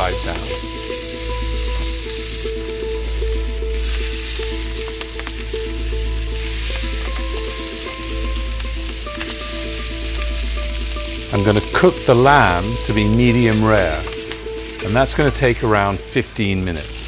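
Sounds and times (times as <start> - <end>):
meat sizzling in a pan: 0.0 - 17.0
soft background music: 0.0 - 17.0.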